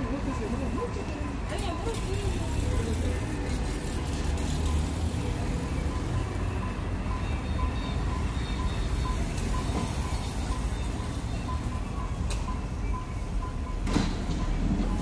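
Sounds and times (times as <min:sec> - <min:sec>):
motorbikes passing: 0:00.0 - 0:12.1
road traffic rumble: 0:00.0 - 0:15.0.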